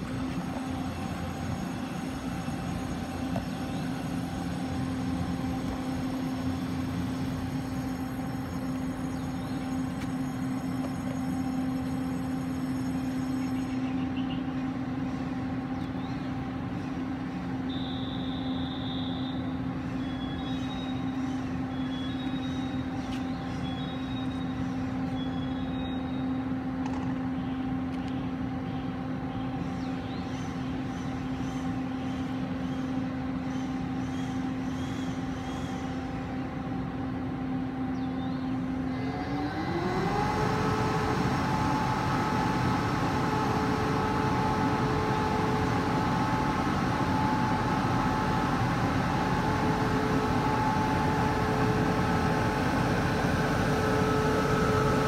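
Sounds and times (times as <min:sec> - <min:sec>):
electric train equipment humming: 0:00.0 - 0:55.0.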